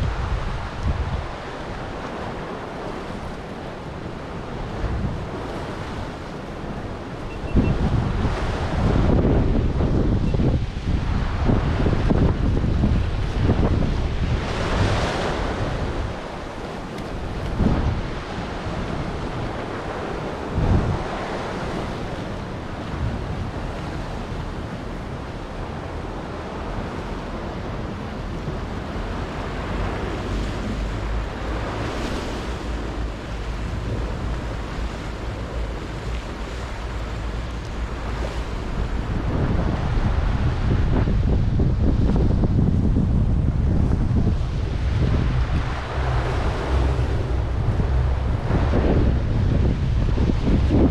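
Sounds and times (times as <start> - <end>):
waves washing against rocks: 0.0 - 50.9
wind buffeting microphone: 0.0 - 50.9.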